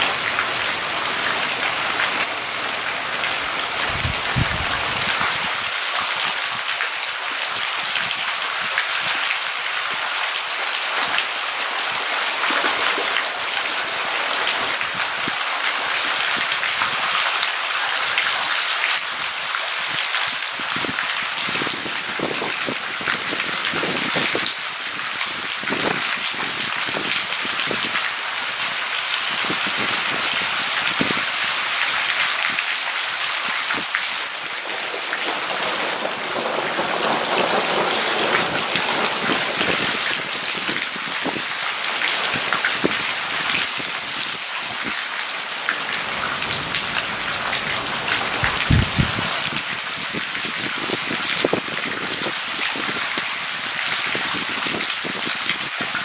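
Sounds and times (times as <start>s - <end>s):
heavy rain: 0.0s - 56.0s
raindrops striking a surface: 0.0s - 56.0s.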